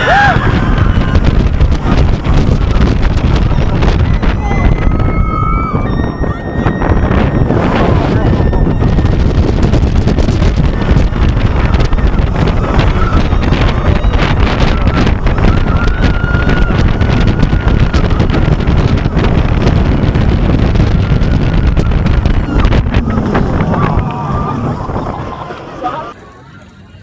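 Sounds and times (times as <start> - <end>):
wind buffeting microphone: 0.0 - 26.2
roller coaster rumbling on track: 0.0 - 27.0.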